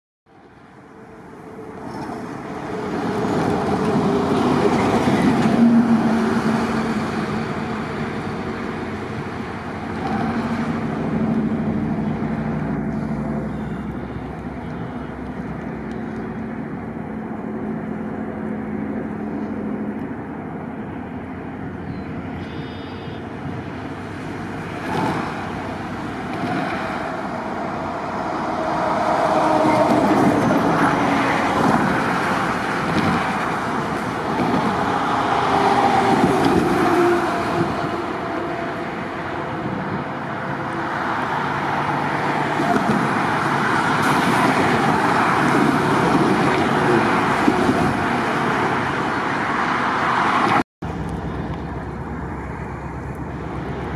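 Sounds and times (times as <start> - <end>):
diesel locomotive engine: 0.3 - 53.9.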